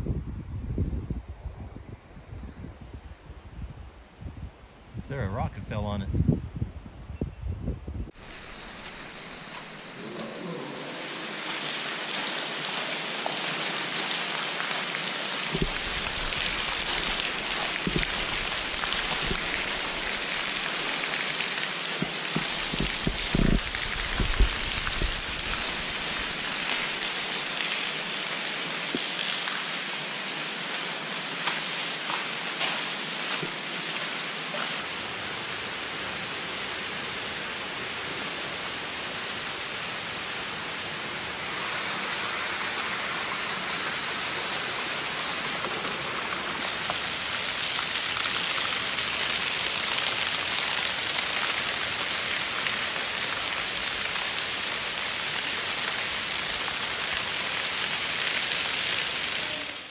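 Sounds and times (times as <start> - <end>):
water streaming and dripping: 8.1 - 59.9.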